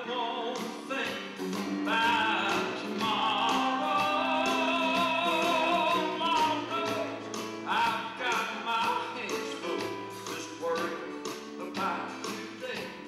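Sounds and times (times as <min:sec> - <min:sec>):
man singing with vibrato: 0:00.0 - 0:13.0
strummed acoustic guitar: 0:00.0 - 0:13.0.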